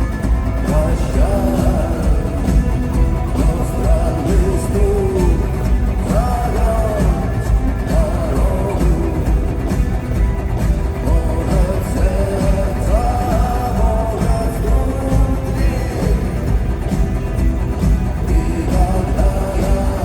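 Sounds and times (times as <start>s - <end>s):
live rock band: 0.0s - 20.0s
person singing: 0.0s - 20.0s.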